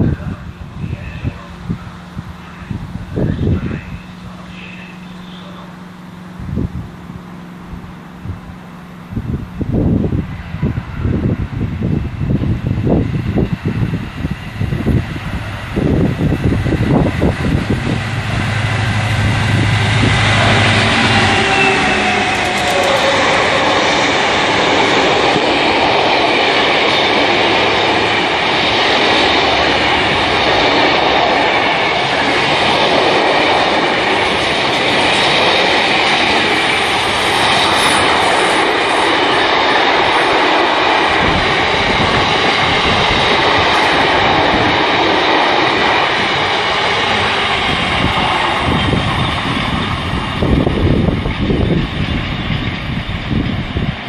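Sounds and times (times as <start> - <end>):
wind buffeting microphone: 0.0 - 4.7, 5.8 - 54.0
freight train wheels rumbling on rail: 0.0 - 54.0.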